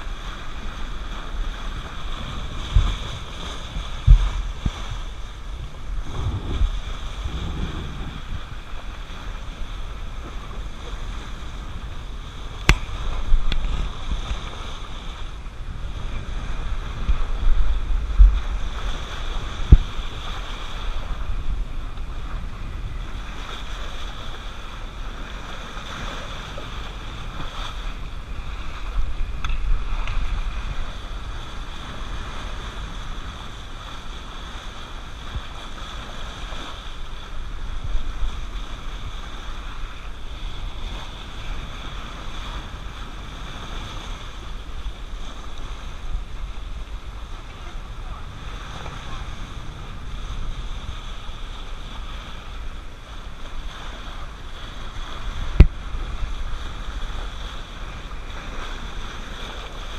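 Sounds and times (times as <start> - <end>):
bow wave rushing and splashing: 0.0 - 59.9
wind buffeting microphone: 0.0 - 59.9.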